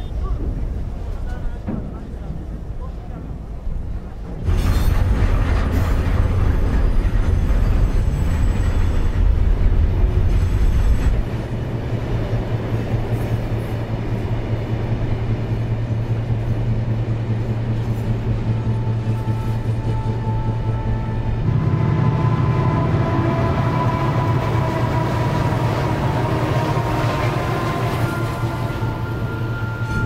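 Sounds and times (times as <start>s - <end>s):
freight train wagons rumbling past: 0.0s - 30.0s.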